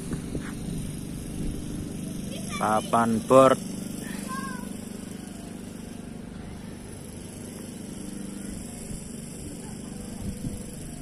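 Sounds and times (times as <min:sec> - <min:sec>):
low mechanical hum: 0:00.0 - 0:11.0
outdoor background noise: 0:00.0 - 0:11.0.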